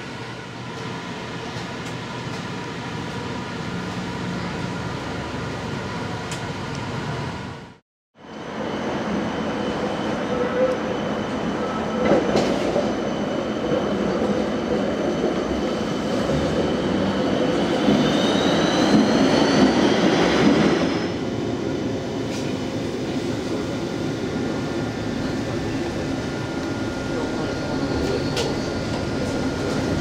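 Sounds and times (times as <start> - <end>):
tram wheels running on rails: 0.2 - 7.6, 8.3 - 30.0.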